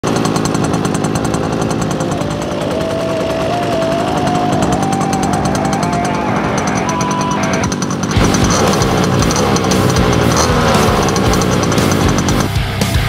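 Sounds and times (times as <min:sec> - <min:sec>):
small two-stroke engine running: 0:00.0 - 0:13.0.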